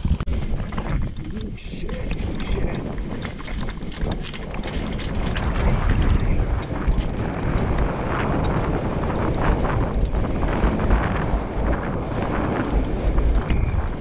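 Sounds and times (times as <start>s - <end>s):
bike rattling over rough trail: 0.0s - 14.0s
wind buffeting microphone: 0.0s - 14.0s.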